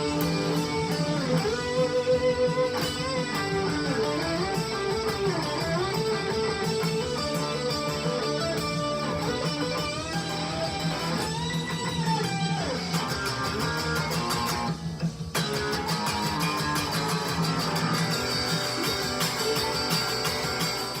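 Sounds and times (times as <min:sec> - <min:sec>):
electric guitar solo with bent notes: 0:00.0 - 0:21.0.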